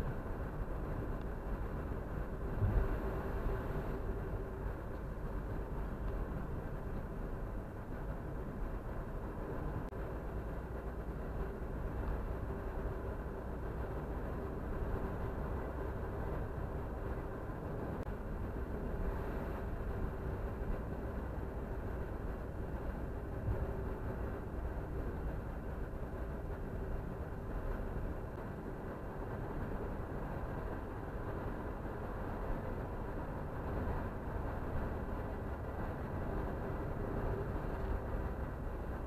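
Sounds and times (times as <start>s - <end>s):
car engine hum: 0.0s - 39.0s.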